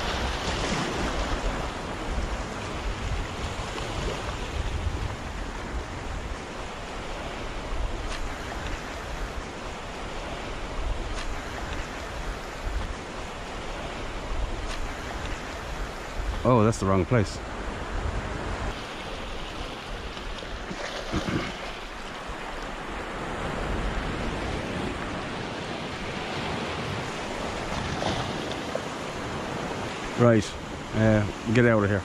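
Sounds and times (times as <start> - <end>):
sea surf washing over rocks: 0.0 - 32.0.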